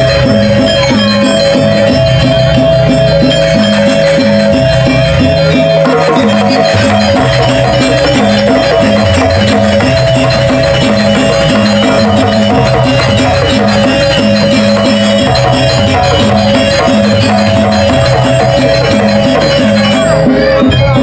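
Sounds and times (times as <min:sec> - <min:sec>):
steady percussion beat: 0:00.0 - 0:21.0
sustained ringing tones: 0:00.0 - 0:21.0.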